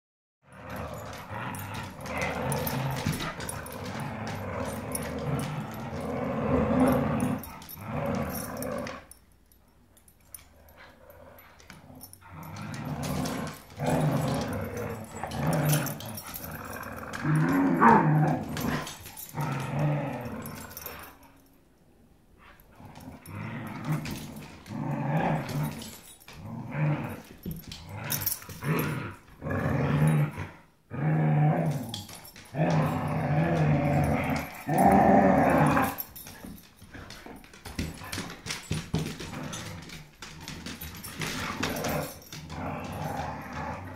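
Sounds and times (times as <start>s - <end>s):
dogs growling: 0.4s - 9.2s, 10.3s - 21.5s, 22.5s - 43.9s.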